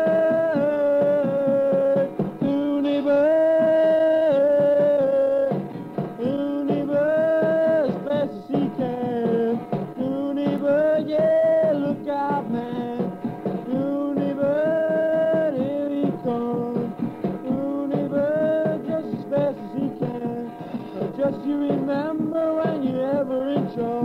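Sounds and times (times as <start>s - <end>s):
rock guitar and drums: 0.0s - 24.0s.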